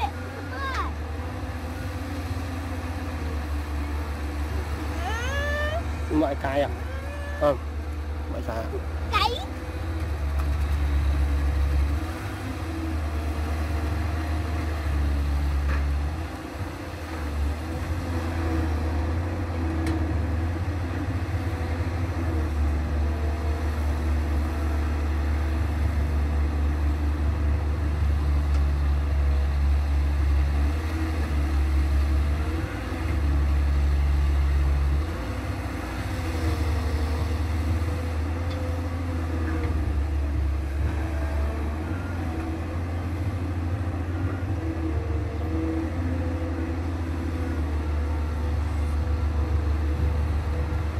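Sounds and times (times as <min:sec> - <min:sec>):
excavator diesel engine rumbling: 0:00.0 - 0:50.9.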